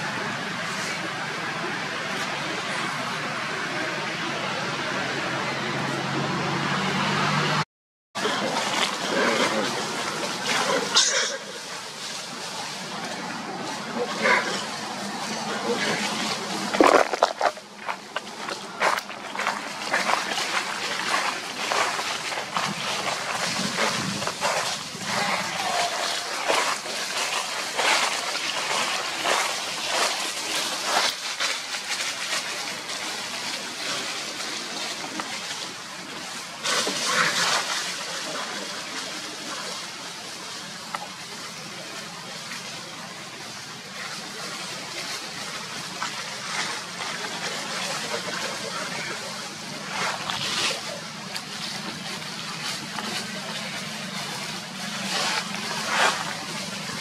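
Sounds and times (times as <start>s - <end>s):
dry leaves rustling: 8.2s - 57.0s.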